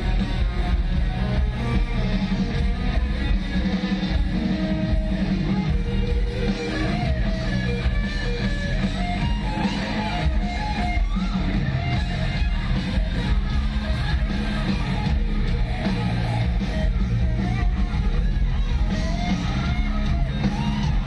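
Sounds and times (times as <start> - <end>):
heavy metal band playing: 0.0 - 21.0
lead guitar bending pitch: 0.0 - 21.0.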